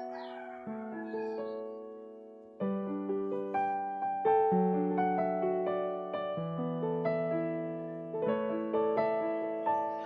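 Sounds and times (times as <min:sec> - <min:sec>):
piano chords and notes: 0:00.0 - 0:10.0.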